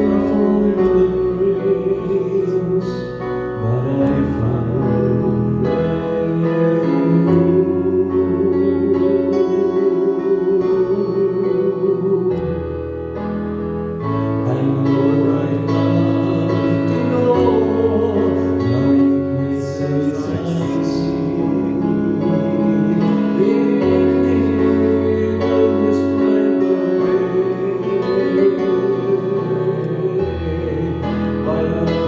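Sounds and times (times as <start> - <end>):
bass line: 0.0 - 32.0
sustained keyboard chords: 0.0 - 32.0.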